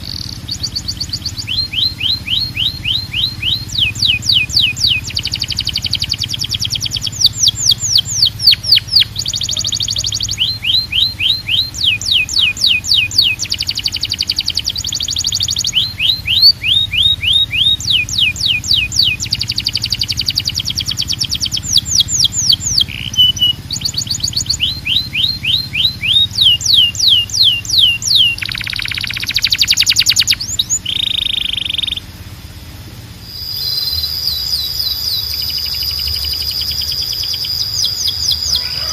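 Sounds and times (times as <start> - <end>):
canary singing: 0.0 - 32.2, 33.2 - 38.9.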